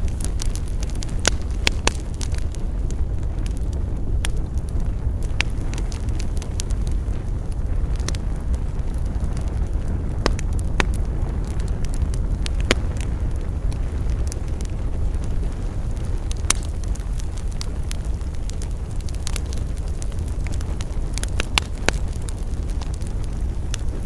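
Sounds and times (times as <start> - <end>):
low fire rumble: 0.0 - 24.0
wood fire crackling and popping: 0.0 - 24.0.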